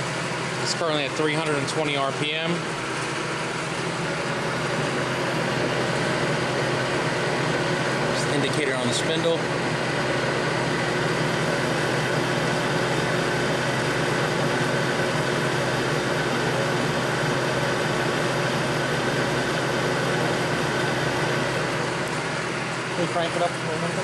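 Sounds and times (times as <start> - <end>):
lathe humming with whine: 0.0 - 24.0.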